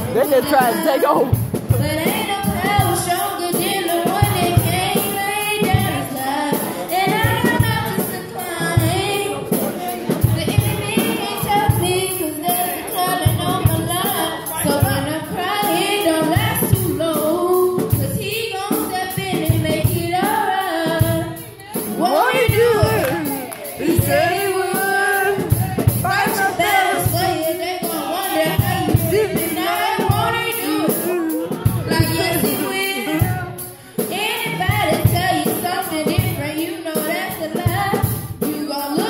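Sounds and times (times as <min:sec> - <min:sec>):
drum kit beat with cymbals: 0:00.0 - 0:39.0
people singing: 0:00.0 - 0:39.0
woman singing: 0:00.0 - 0:39.0.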